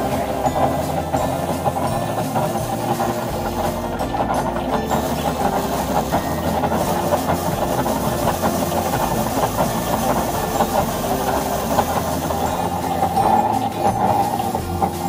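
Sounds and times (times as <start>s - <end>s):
threshing machine running: 0.0s - 15.0s.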